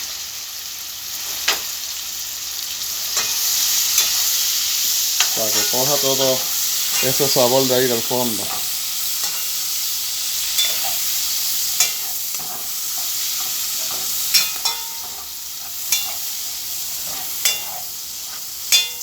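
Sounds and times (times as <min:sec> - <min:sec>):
onion sizzling in a pan: 0:00.0 - 0:19.0.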